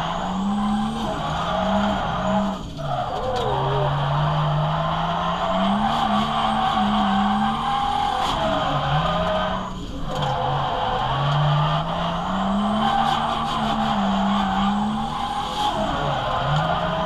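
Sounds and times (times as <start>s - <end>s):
car engine revving: 0.0s - 17.0s
tyres skidding and squealing: 0.0s - 17.0s.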